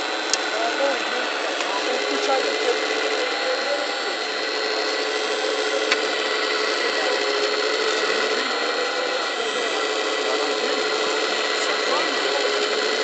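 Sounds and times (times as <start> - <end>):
hydraulic pump whining: 0.0 - 13.0.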